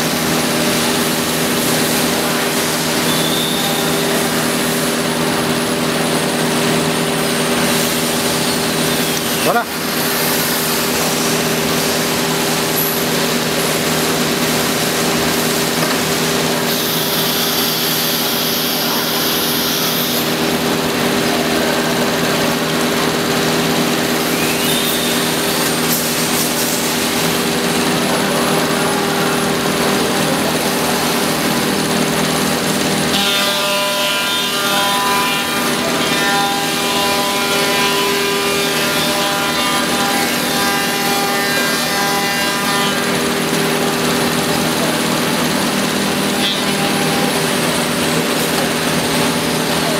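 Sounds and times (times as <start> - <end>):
cnc router cutting wood: 0.0 - 49.9.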